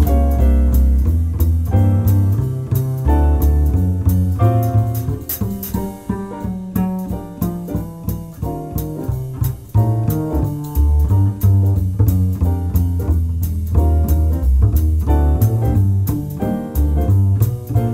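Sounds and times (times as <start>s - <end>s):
instrumental music with steady beat: 0.0s - 17.9s.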